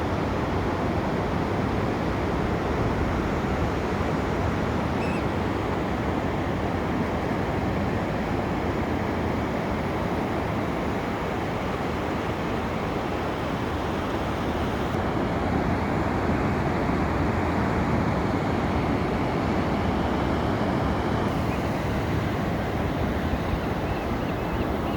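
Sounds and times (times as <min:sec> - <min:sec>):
ocean surf: 0:00.0 - 0:24.9
wind: 0:00.0 - 0:24.9.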